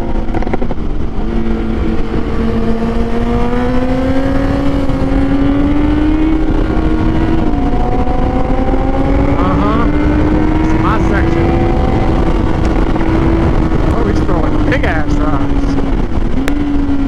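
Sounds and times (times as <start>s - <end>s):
motorcycle engine revving: 0.0s - 17.0s
wind rush on microphone: 0.0s - 17.0s.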